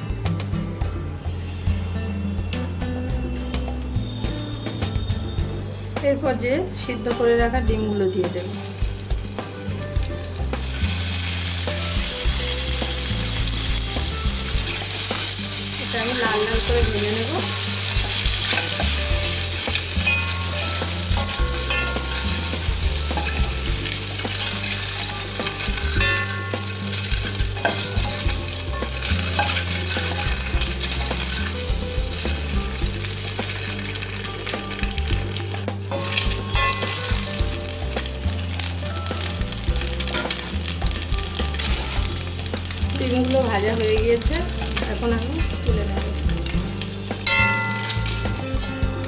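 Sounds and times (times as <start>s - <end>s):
eggs sizzling in hot oil: 3.5s - 49.0s
spatula turning food in pot: 8.4s - 49.0s.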